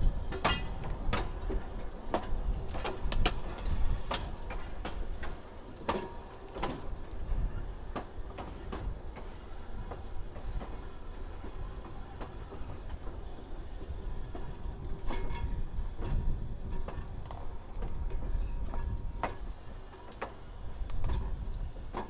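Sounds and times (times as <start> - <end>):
train rumbling: 0.0 - 22.0
wheels clicking over rail joints: 0.0 - 22.0.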